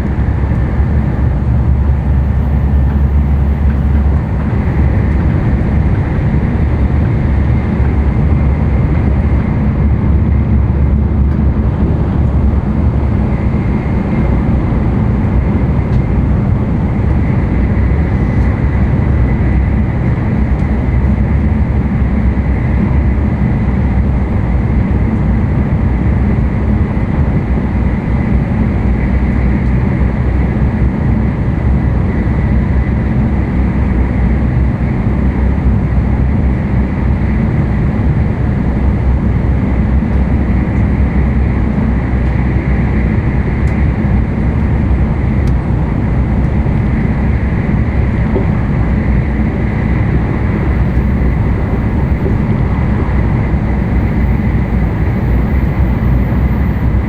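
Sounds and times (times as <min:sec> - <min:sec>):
train interior low rumble: 0:00.0 - 0:57.0.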